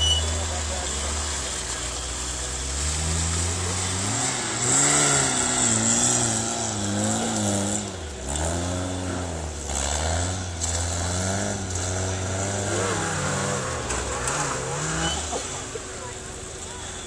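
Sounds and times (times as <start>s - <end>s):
buggy engine revving hard: 0.0s - 17.0s.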